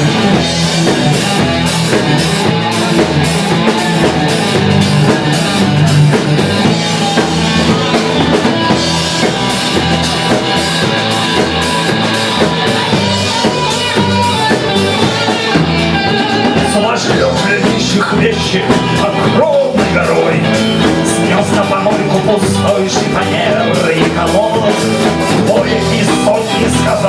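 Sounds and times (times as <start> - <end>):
drum kit beat: 0.0 - 27.0
guitar: 0.0 - 27.0
live rock band playing: 0.0 - 27.0.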